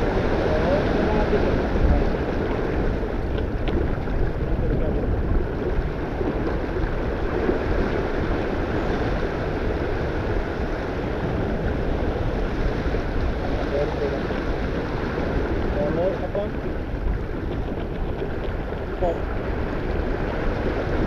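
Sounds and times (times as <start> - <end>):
water rushing along hull: 0.0 - 21.0
wind buffeting microphone: 0.0 - 21.0.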